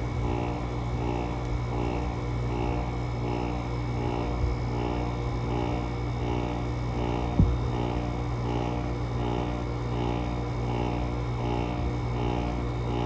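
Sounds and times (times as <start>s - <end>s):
window air conditioner droning: 0.0s - 13.0s.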